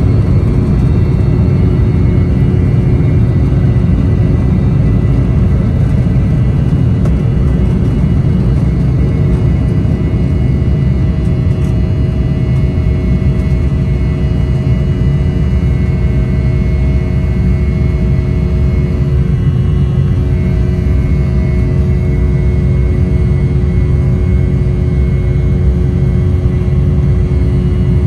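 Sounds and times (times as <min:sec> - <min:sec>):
high engine whine: 0:00.0 - 0:28.0
jet engines rumbling in cabin: 0:00.0 - 0:28.0.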